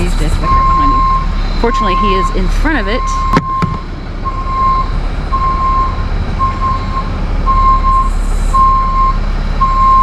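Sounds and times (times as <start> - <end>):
backup alarm beeping: 0.0 - 10.0
low engine rumble: 0.0 - 10.0.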